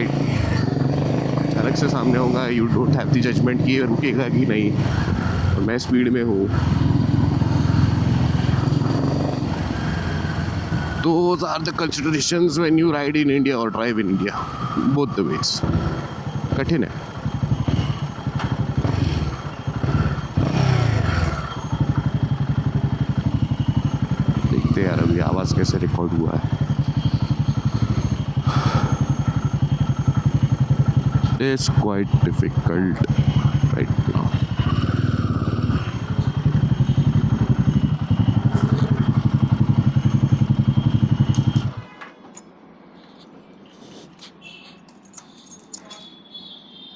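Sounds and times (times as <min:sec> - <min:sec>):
motorcycle engine running: 0:00.0 - 0:12.8, 0:15.5 - 0:41.8.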